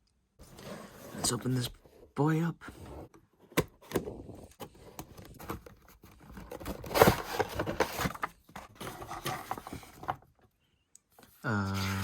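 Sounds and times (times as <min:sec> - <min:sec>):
cardboard scraping and rustling: 0:00.4 - 0:10.4.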